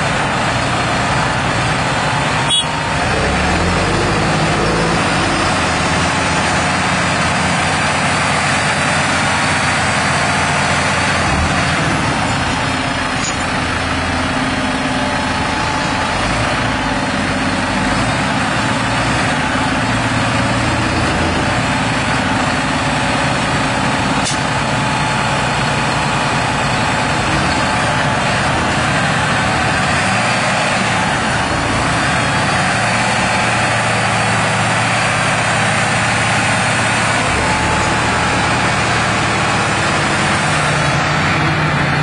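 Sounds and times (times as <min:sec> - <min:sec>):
tractor diesel engines running: 0:00.0 - 0:42.0.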